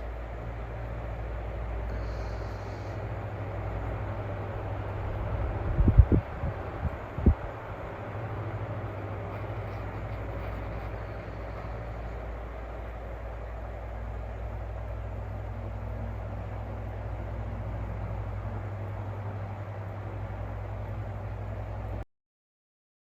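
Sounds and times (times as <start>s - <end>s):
electric fan motor hum: 0.0s - 22.0s
fan air rushing: 0.0s - 22.0s.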